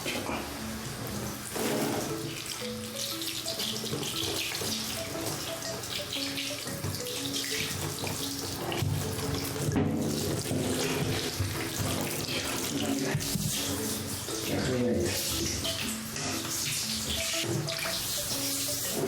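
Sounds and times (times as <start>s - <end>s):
plucked background music: 0.0s - 19.0s
running water splashing: 0.0s - 19.0s.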